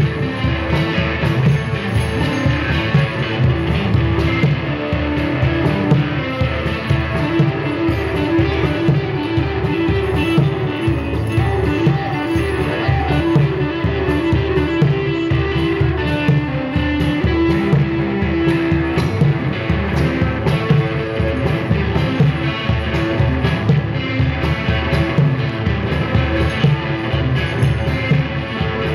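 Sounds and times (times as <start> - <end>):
electric guitar repeating figure: 0.0 - 28.9
low percussion pulse: 0.0 - 28.9.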